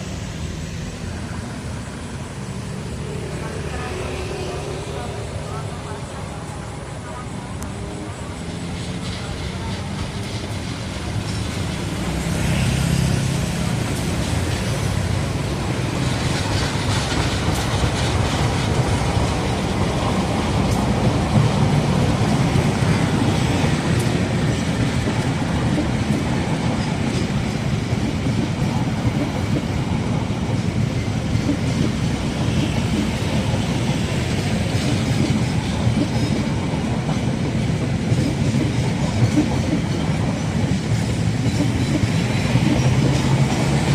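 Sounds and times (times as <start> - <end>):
train wheels clattering on rails: 7.6 - 43.9.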